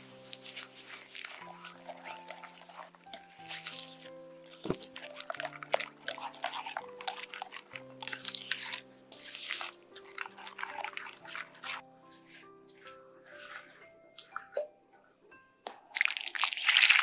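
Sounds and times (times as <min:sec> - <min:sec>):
hands scraping and rustling dough: 0:00.0 - 0:14.6, 0:16.0 - 0:17.0
soft background music: 0:00.0 - 0:17.0.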